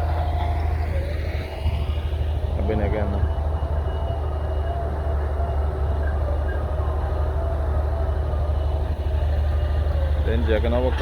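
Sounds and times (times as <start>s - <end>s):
diesel machinery rumbling: 0.0s - 11.0s
faint wavering whine: 0.0s - 11.0s.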